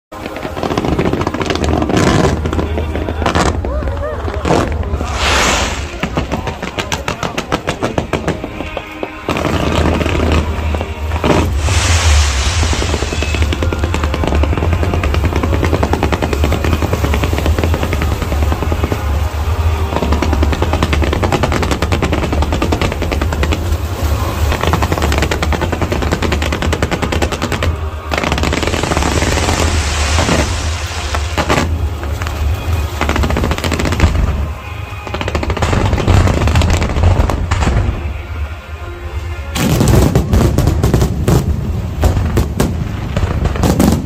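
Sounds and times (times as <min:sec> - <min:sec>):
fireworks bursting and crackling: 0:00.1 - 0:44.0
low rumble: 0:02.0 - 0:07.2, 0:09.4 - 0:44.0.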